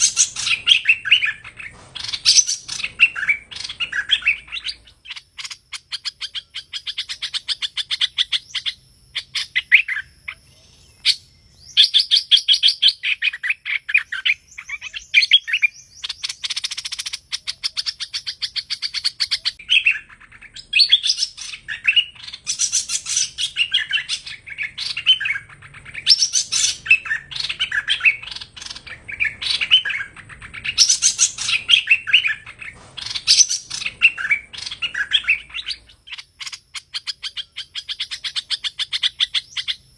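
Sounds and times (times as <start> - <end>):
bird chattering trills: 0.0 - 39.9
quick bird chirping: 0.0 - 39.9.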